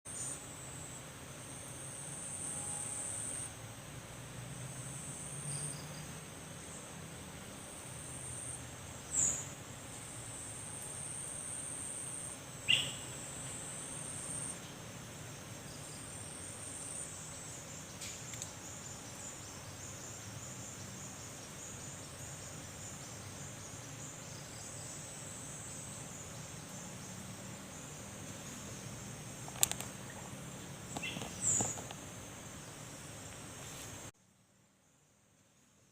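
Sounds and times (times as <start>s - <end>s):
insects chirring drone: 0.1s - 35.9s.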